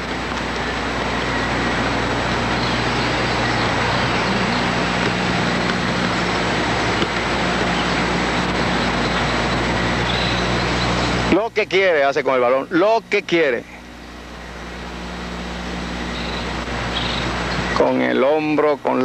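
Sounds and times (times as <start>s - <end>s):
low hum: 0.0s - 19.0s
steady rushing noise: 0.0s - 19.0s.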